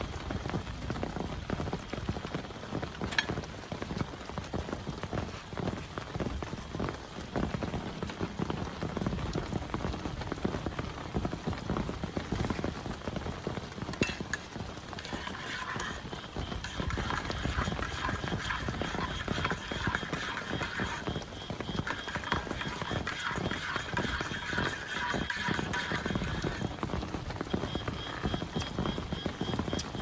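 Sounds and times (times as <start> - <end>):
heavy rain on a shelter: 0.0 - 30.0.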